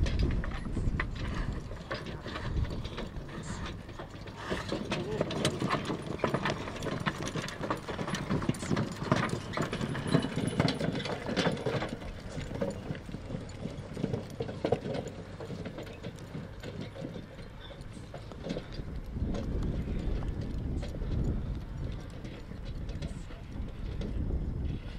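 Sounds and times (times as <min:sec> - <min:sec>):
cart and harness rattling: 0:00.0 - 0:24.9
horse hooves clip-clopping: 0:00.0 - 0:24.9.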